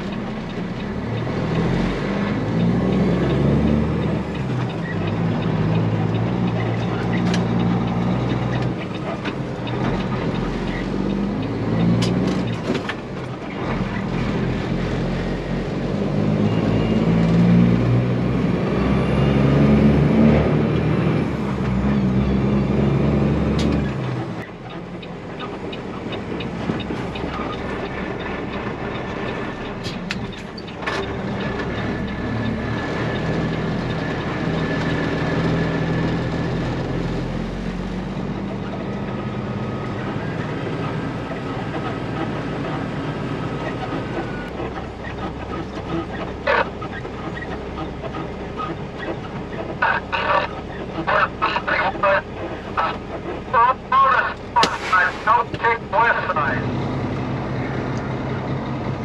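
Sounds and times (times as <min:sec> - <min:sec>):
diesel truck engine pulling: 0:00.0 - 0:59.0.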